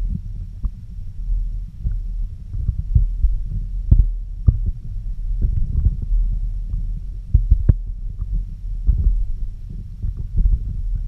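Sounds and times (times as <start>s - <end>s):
underwater rumble of moving water: 0.0s - 11.0s.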